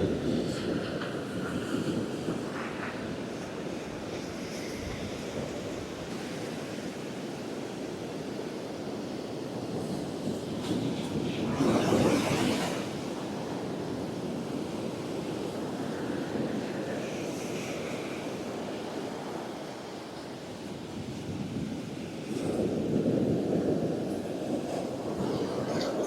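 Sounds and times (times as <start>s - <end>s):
waves breaking on beach: 0.0s - 26.0s
wind buffeting microphone: 0.0s - 26.0s.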